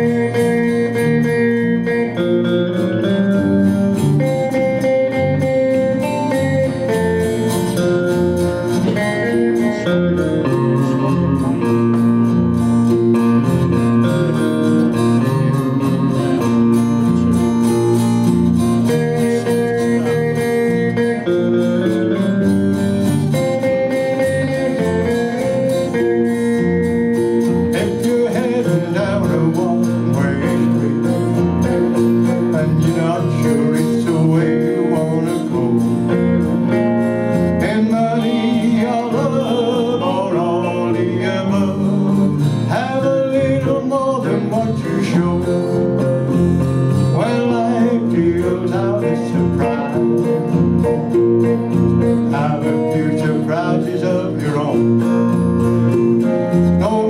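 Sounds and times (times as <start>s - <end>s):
acoustic guitar: 0.0s - 57.0s
electric bass: 0.0s - 57.0s
electric guitar: 0.0s - 57.0s.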